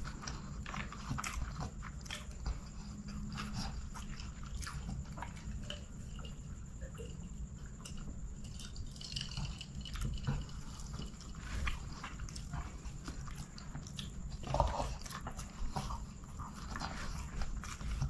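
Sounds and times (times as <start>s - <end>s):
man chewing food: 0.0s - 18.0s.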